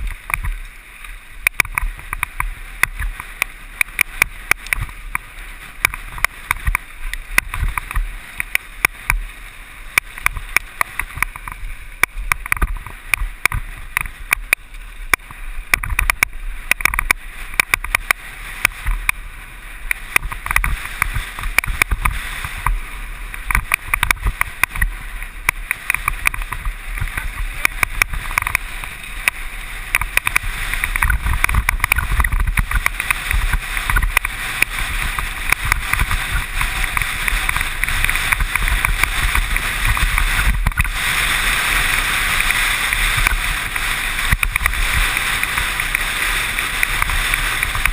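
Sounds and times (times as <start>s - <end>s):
bike rattling over rocks: 0.0s - 47.9s
wind rumbling on microphone: 0.0s - 47.9s.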